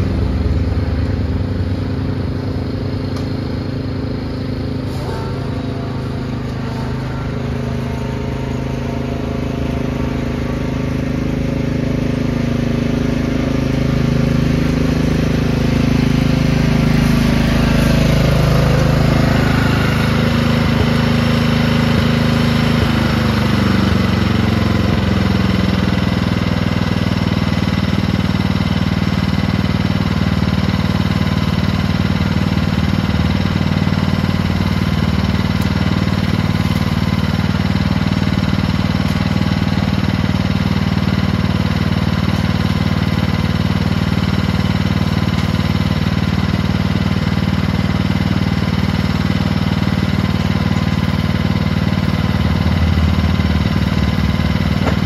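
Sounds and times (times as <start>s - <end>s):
lawn tractor engine running: 0.0s - 55.0s.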